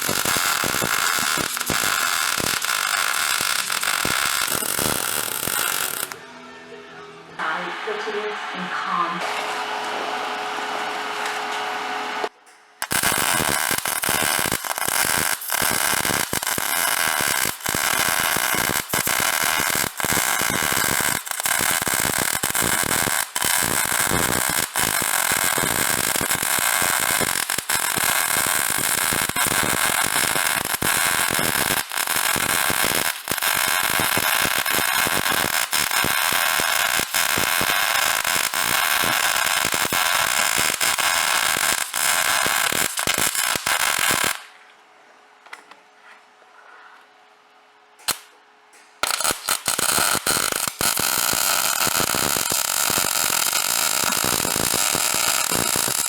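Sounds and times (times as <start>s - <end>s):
welding arc crackling: 0.0s - 6.2s, 9.2s - 44.5s, 49.0s - 56.0s.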